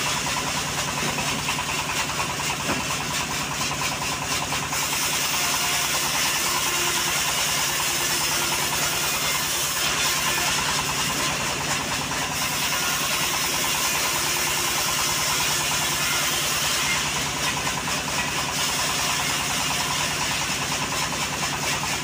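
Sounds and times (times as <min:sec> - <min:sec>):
sawmill engine running: 0:00.0 - 0:22.0.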